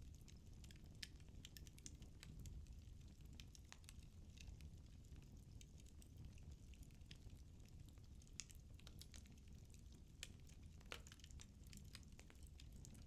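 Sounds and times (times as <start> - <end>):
firewood crackling in fireplace: 0.0 - 13.0.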